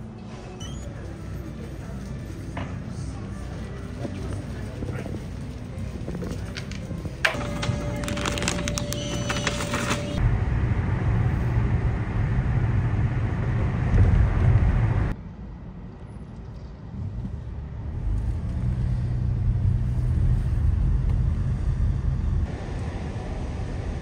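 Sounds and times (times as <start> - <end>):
vehicle road rumble: 0.0 - 24.0.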